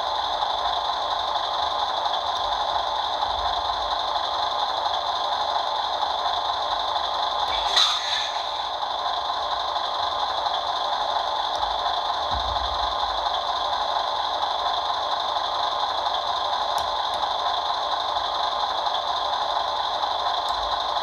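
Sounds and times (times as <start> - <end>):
diesel idle through small speaker: 0.0 - 21.0.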